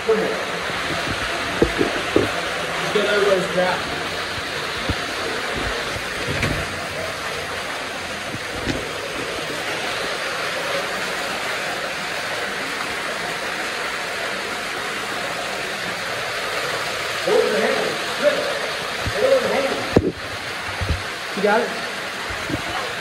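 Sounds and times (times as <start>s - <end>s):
water rushing through a tunnel: 0.0s - 23.0s.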